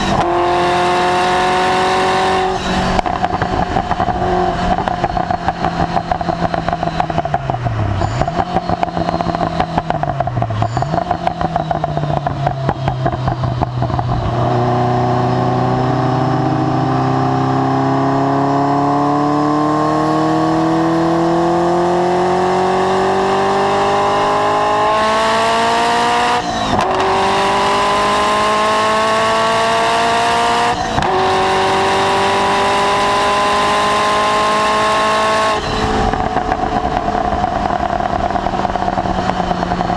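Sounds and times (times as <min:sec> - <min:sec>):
sports car engine accelerating: 0:00.0 - 0:39.9.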